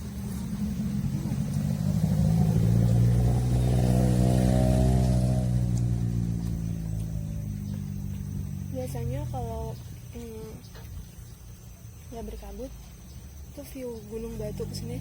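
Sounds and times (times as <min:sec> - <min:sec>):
vehicle engine passing by: 0:00.0 - 0:11.6, 0:14.0 - 0:15.0.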